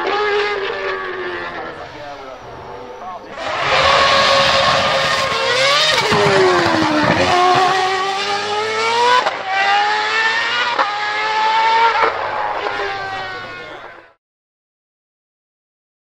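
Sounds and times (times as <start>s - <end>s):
racing car engine at full throttle: 0.0s - 14.2s.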